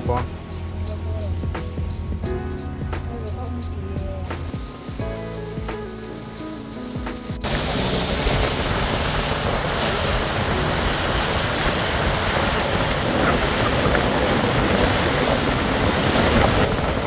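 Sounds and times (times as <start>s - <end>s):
water rushing: 0.0s - 17.0s
wind buffeting microphone: 0.0s - 17.0s
wind rushing: 0.0s - 17.0s.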